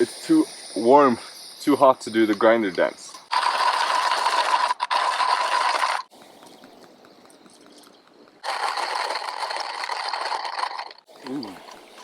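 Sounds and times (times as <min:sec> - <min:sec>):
hand coffee grinder crunching beans: 0:02.2 - 0:12.0.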